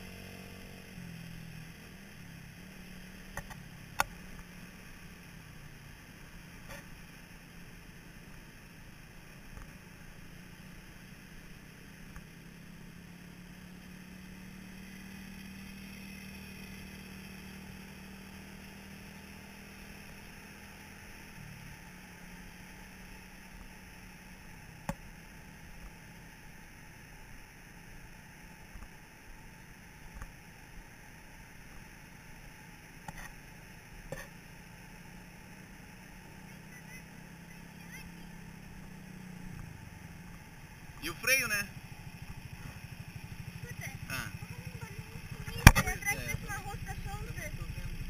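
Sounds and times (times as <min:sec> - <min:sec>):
buggy engine humming: 0:00.0 - 0:48.0.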